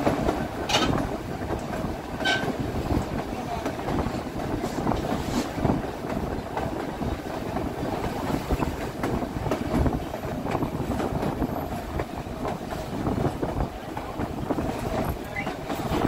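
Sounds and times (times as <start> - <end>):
train rumble: 0.0 - 16.0
wheels clicking on rails: 0.0 - 16.0.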